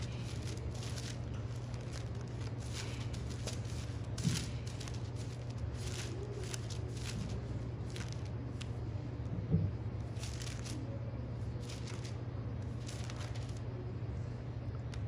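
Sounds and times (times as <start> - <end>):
soft rustles of handling: 0.0 - 13.9.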